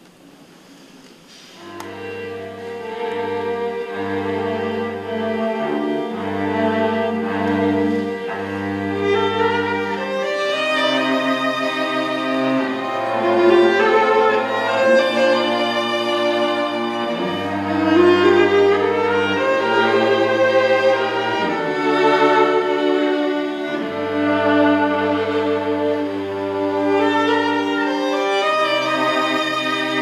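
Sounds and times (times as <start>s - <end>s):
low cello notes: 1.6s - 30.0s
violin melody: 1.6s - 30.0s.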